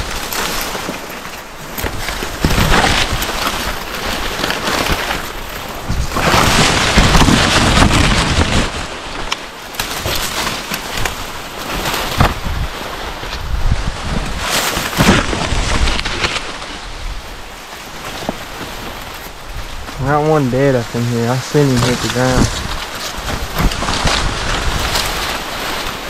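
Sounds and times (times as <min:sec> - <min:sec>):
dry corn leaves rustling: 0:00.0 - 0:26.0.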